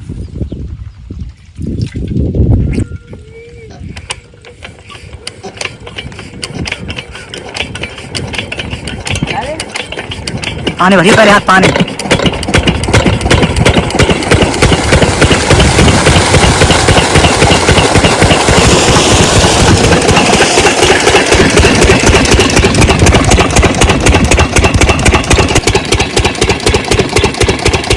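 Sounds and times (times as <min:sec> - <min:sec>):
diesel engine running: 0:03.9 - 0:27.9.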